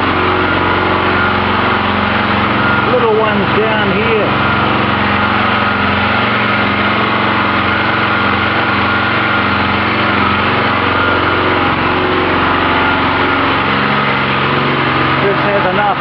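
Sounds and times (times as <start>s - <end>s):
generator engine running: 0.0s - 16.0s.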